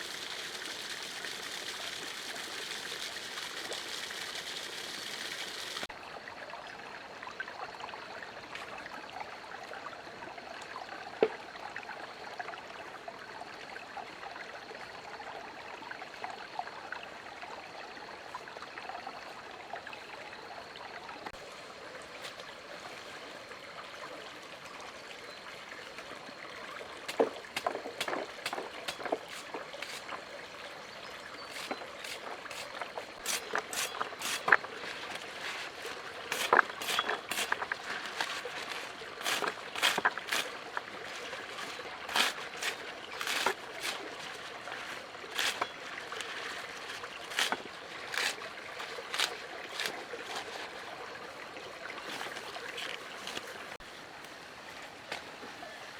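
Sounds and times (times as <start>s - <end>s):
water trickling: 0.0s - 53.8s.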